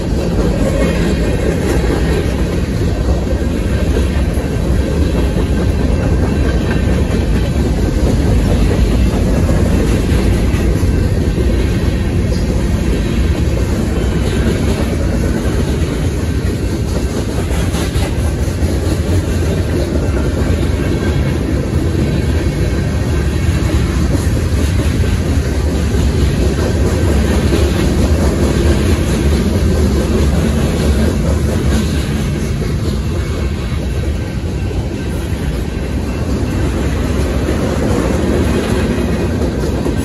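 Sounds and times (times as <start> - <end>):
freight train wheels rumbling on rail: 0.0 - 40.0.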